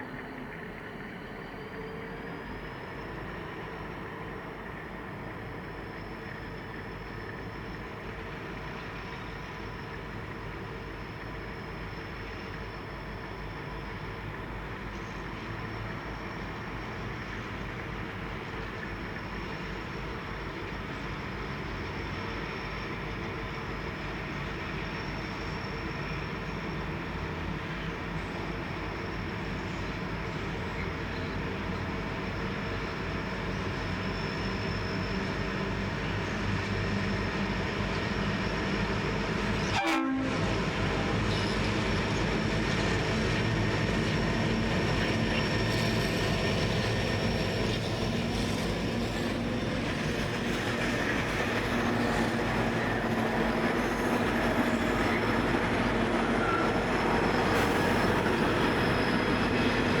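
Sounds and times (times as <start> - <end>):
diesel locomotive engines: 0.0 - 60.0.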